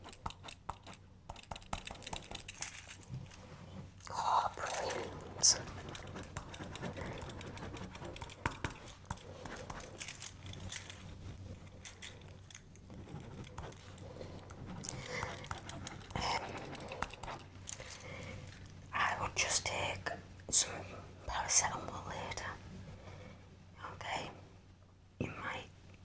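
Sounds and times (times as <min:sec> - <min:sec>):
low steady hum: 0:00.0 - 0:26.0
soft handling sounds: 0:01.8 - 0:23.4.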